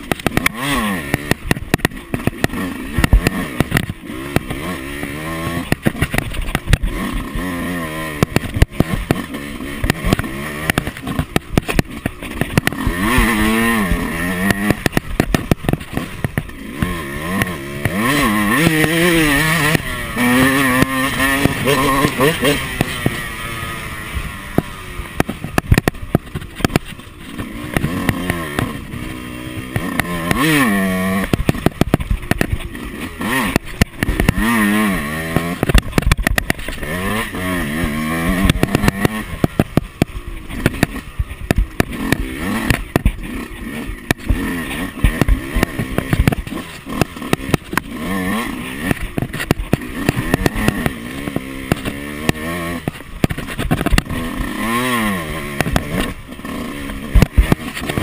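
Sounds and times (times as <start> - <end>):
motocross bike engine revving: 0.0 - 58.0
sharp knocks and rattles: 0.0 - 58.0.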